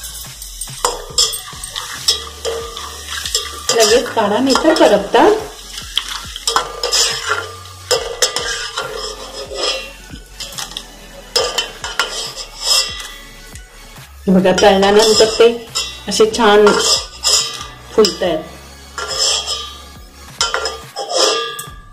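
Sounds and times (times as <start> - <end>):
spoon scraping and clinking pot: 0.0 - 13.6, 14.5 - 21.9
food sizzling in hot oil: 0.0 - 21.8.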